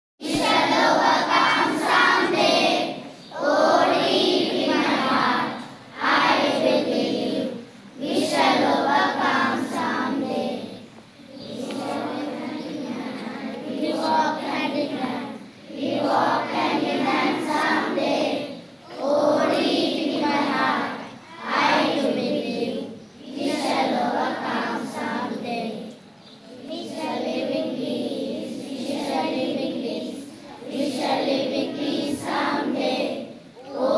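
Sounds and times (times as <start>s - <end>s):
children singing in unison: 0.2s - 33.9s.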